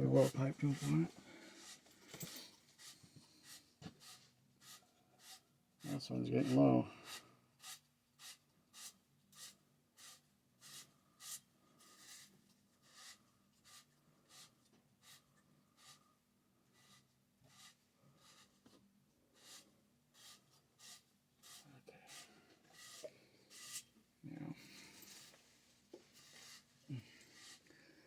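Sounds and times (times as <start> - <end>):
brush scratching on pipe threads: 0.0 - 27.8.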